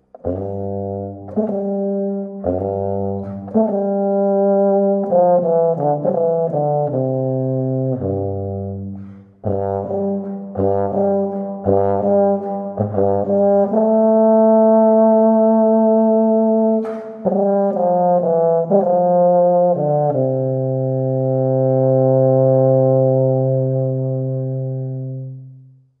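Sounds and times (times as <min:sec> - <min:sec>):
solo tuba playing: 0:00.1 - 0:25.7.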